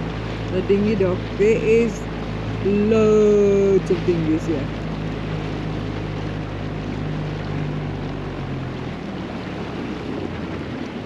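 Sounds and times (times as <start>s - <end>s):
outboard motor humming: 0.0s - 11.0s
water rushing: 0.0s - 11.0s
wind: 0.0s - 11.0s.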